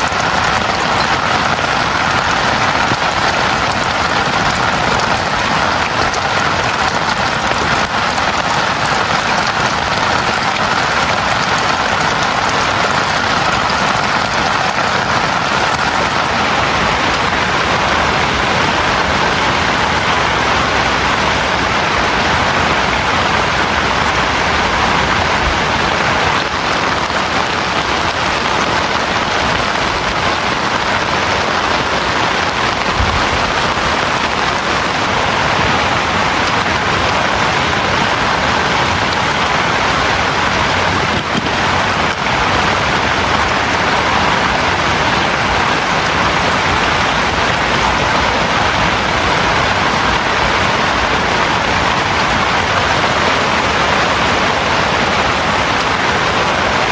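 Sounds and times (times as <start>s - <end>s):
heavy rain on a tent: 0.0s - 56.9s.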